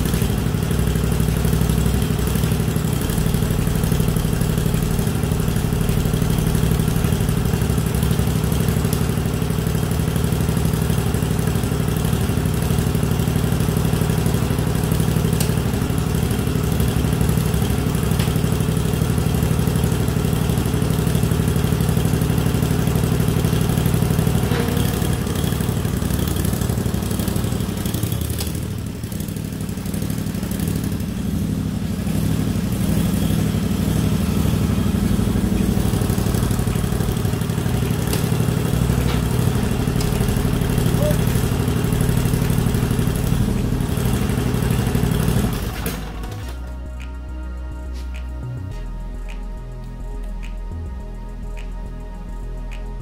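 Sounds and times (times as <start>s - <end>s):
v-twin engine idling: 0.0s - 53.0s.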